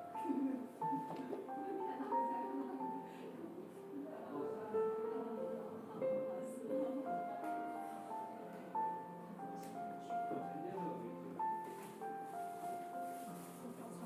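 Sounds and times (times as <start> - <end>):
murmur of voices: 0.0 - 11.4
slow background music: 0.0 - 14.0.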